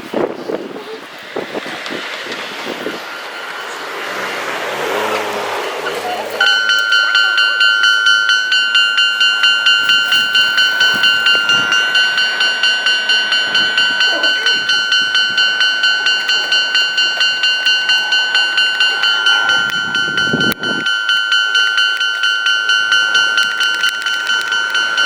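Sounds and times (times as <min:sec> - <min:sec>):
level crossing warning bell: 0:01.0 - 0:25.0.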